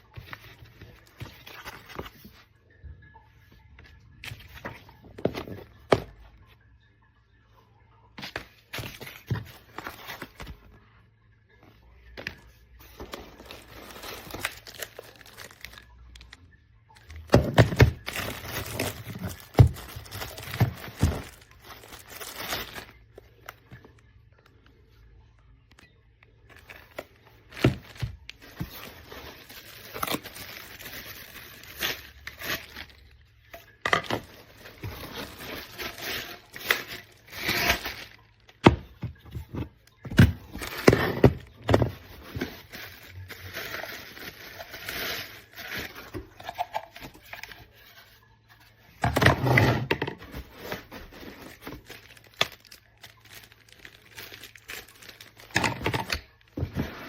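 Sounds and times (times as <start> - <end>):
rustling and crinkling: 0.0 - 2.7, 3.4 - 6.6, 8.2 - 10.9, 11.6 - 57.0.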